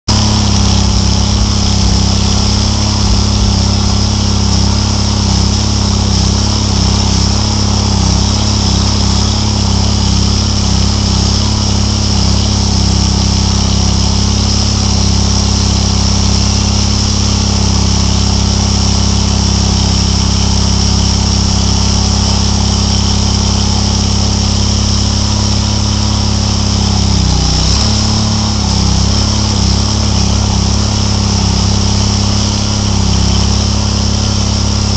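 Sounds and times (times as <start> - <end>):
chainsaw cutting into wall: 0.1 - 34.9.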